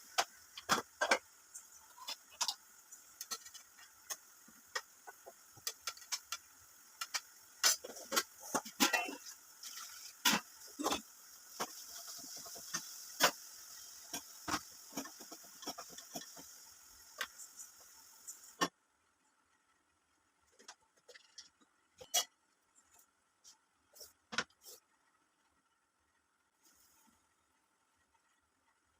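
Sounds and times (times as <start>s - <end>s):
faint steady hiss: 0.0s - 28.9s.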